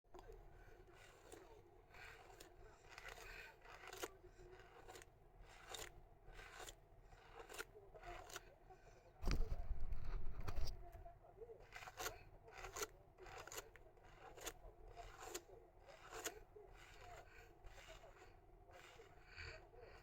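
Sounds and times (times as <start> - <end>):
scratchy rubbing strokes: 0.2 - 8.6, 11.6 - 20.0.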